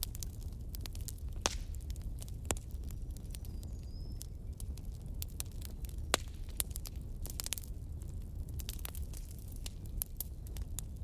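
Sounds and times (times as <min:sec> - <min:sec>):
fire crackling and popping: 0:00.0 - 0:11.0
fire rumbling: 0:00.0 - 0:11.0.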